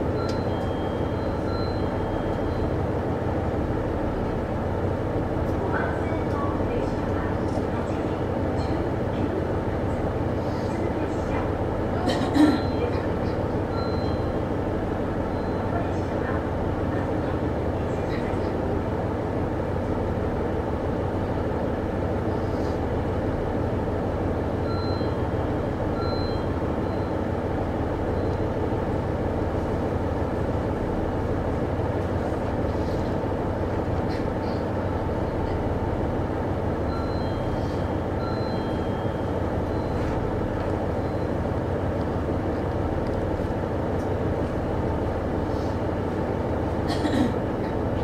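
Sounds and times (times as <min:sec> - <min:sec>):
diesel railcar engine idling: 0:00.0 - 0:48.0.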